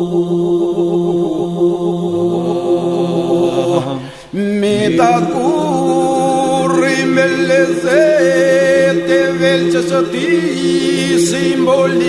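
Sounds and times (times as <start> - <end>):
men singing elegy: 0.0 - 12.0.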